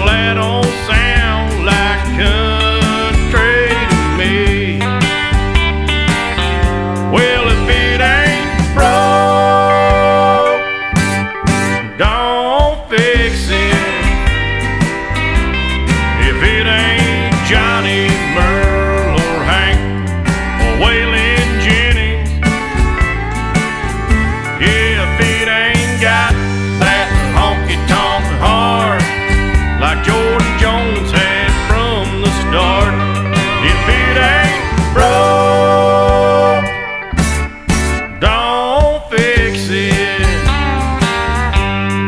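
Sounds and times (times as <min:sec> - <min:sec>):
country instrumental music: 0:00.0 - 0:42.0.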